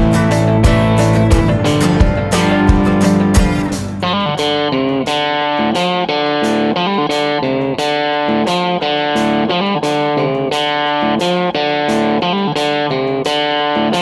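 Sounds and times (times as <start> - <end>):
guitar playing notes: 0.0 - 14.0.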